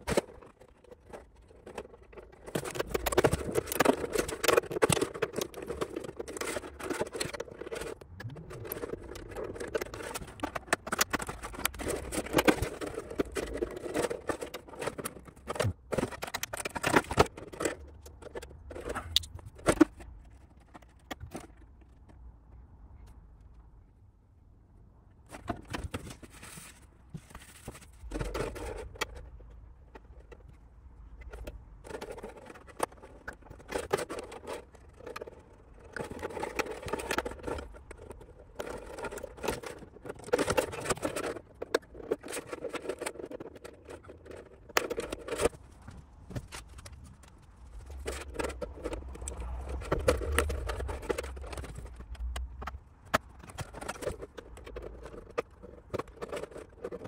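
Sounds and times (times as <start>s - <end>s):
plastic shell scraping and clicking: 0.0s - 23.2s, 25.3s - 57.0s.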